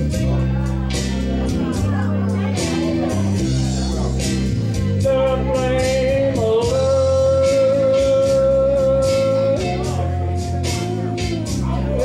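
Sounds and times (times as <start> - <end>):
backing music with steady beat: 0.0 - 12.0.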